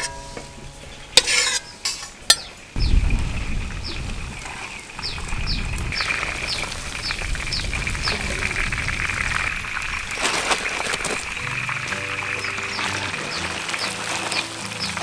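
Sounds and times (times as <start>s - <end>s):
bird chirping: 0.6s - 10.2s, 11.2s - 15.0s.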